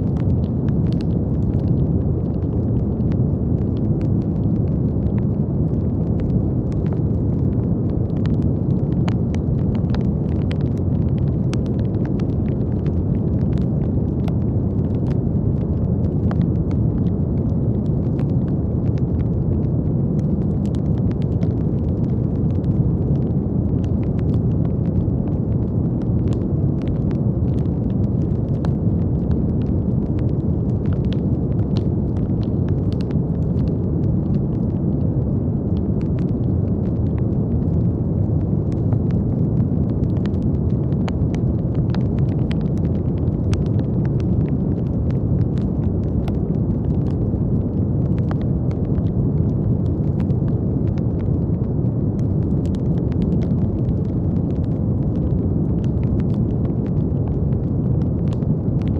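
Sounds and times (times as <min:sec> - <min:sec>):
brown noise: 0:00.0 - 0:58.9
faint crackles: 0:00.0 - 0:58.9.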